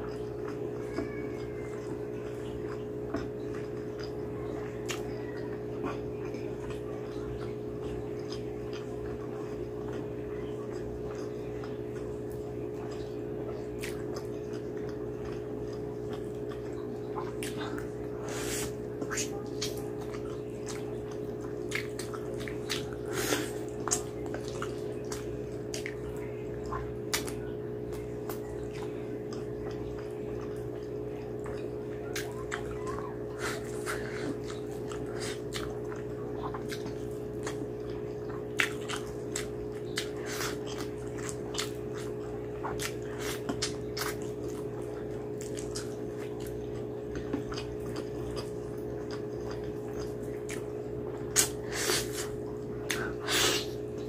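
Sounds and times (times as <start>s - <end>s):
wet chewing and lip-smacking: 0.0s - 54.0s.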